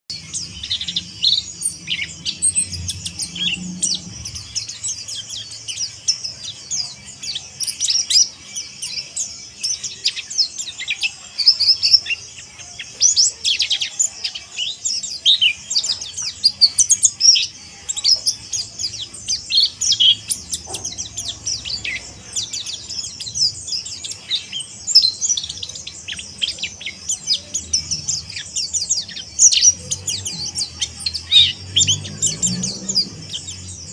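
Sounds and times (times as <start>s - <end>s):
bird twittering chatter: 0.1s - 33.9s.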